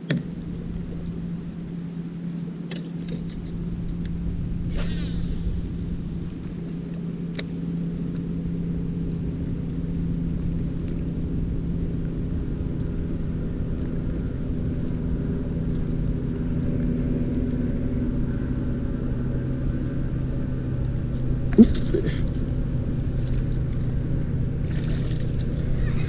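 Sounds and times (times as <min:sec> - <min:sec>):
electric trolling motor humming: 0:00.0 - 0:26.0
low rumble: 0:00.0 - 0:26.0.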